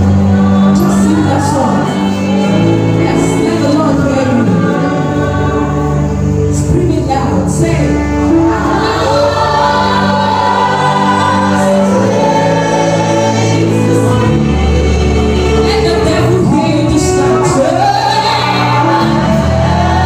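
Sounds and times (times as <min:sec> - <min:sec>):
sustained backing instruments: 0:00.0 - 0:20.0
voices singing worship song: 0:00.0 - 0:20.0.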